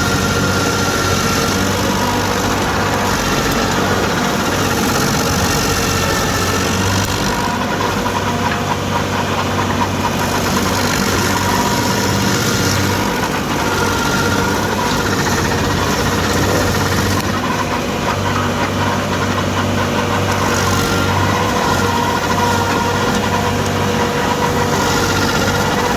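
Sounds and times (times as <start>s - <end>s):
stump grinder running: 0.0s - 25.9s.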